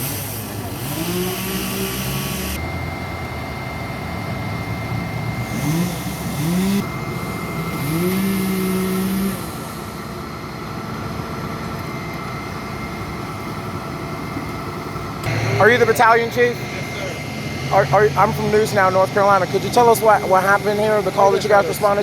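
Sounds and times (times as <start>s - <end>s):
outdoor traffic noise: 0.0s - 22.0s
vehicle engine accelerating: 0.0s - 22.0s.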